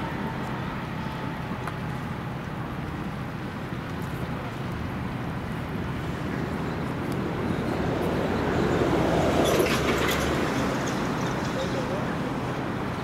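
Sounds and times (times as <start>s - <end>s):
water: 0.0s - 13.0s.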